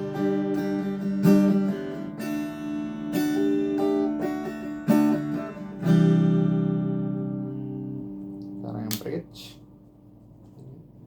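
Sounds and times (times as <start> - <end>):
clean electric guitar strumming: 0.0 - 9.2.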